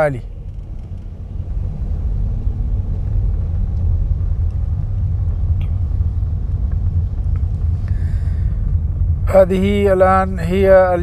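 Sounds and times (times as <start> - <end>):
car engine rumble: 0.0 - 11.0
tyre noise on road: 0.0 - 11.0.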